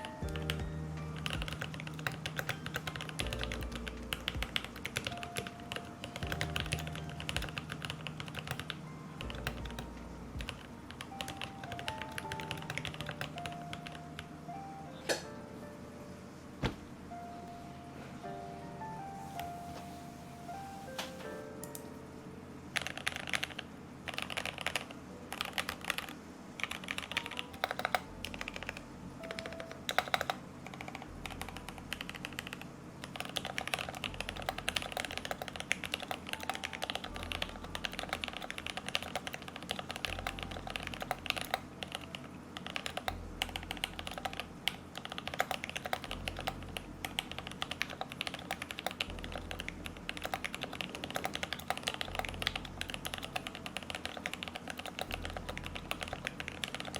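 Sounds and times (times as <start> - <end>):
mechanical keyboard typing: 0.0 - 14.3, 22.8 - 56.9.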